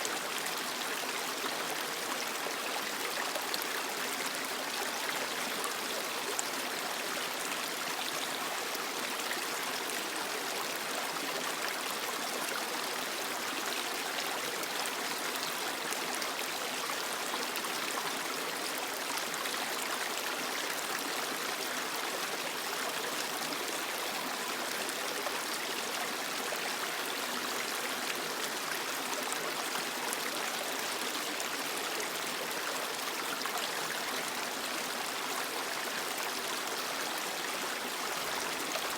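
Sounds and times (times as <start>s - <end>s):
creek running over rocks: 0.0s - 38.9s.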